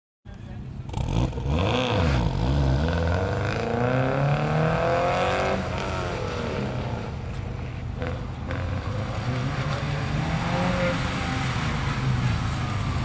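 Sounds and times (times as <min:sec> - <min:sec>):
car engine revving: 0:00.9 - 0:13.0.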